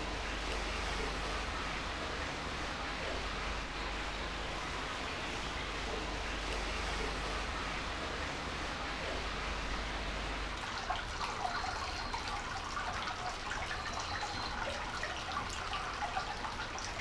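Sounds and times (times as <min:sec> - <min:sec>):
water drips and splashes: 0:00.0 - 0:17.0
water rushing and trickling: 0:00.0 - 0:17.0.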